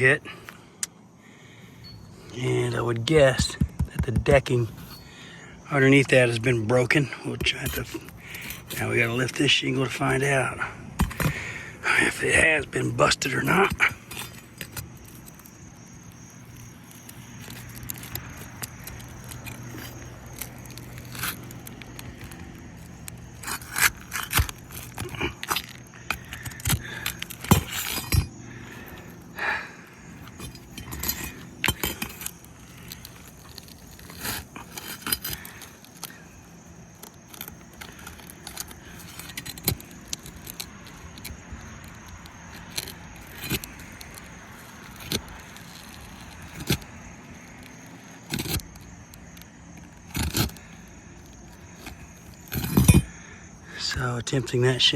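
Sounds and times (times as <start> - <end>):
roofing shingle scraping and crackling: 0.0 - 54.9.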